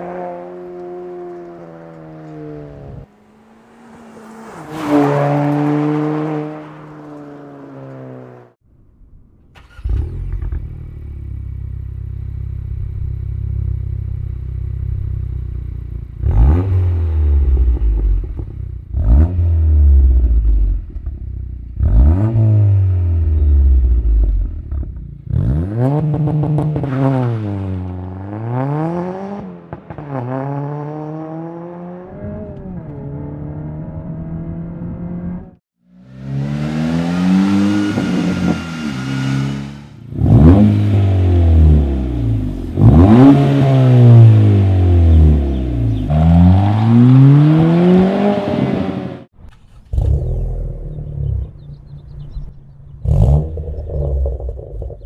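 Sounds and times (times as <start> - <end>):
car engine revving: 0.0 - 8.6, 9.6 - 55.0.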